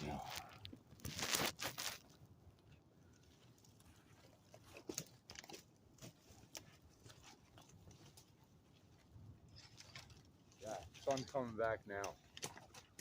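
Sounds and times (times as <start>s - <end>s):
faint short crunches: 0.0s - 11.4s.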